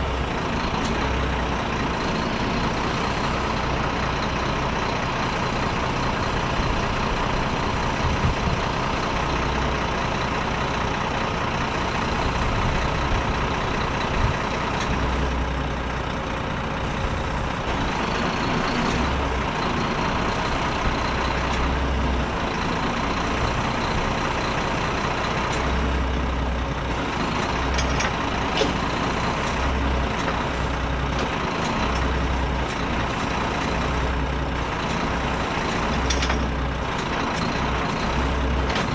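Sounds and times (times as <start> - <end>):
diesel truck engine rumbling: 0.0 - 38.9
hydraulic crane rumble: 0.0 - 38.9.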